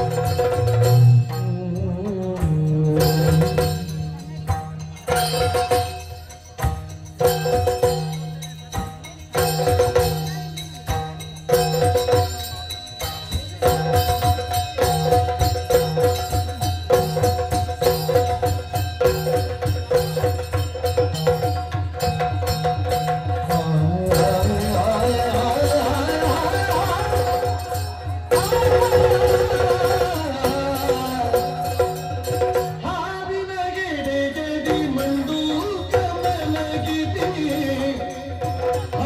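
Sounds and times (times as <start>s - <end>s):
drums beating a steady rhythm: 0.0s - 39.0s.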